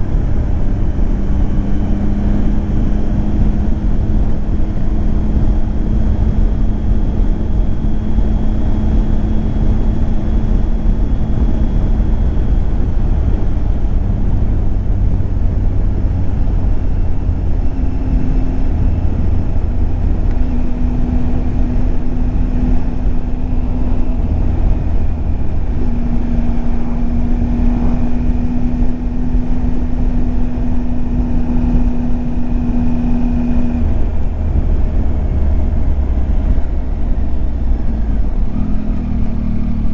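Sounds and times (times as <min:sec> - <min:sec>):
motorcycle engine running: 0:00.0 - 0:39.9
road rumble: 0:00.0 - 0:39.9
wind rush: 0:00.0 - 0:39.9.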